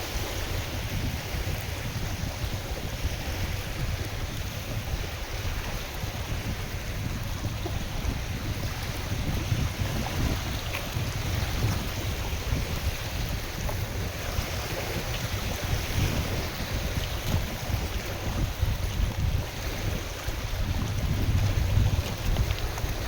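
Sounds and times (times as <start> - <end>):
lake waves lapping: 0.0 - 23.0
wind buffeting microphone: 0.0 - 23.0.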